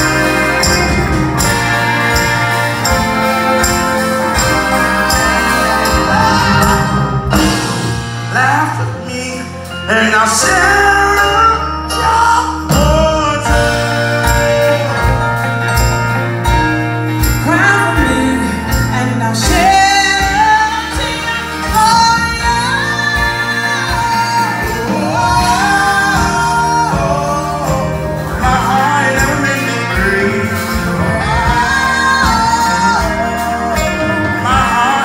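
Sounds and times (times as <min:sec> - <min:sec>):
person singing: 0:00.0 - 0:16.0, 0:17.2 - 0:35.0
live soul band playing: 0:00.0 - 0:35.0.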